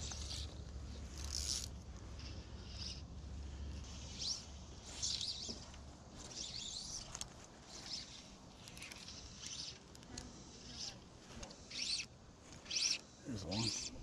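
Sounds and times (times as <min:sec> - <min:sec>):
outdoor background noise: 0:00.0 - 0:14.0
birds chirping: 0:02.1 - 0:09.9, 0:10.5 - 0:14.0.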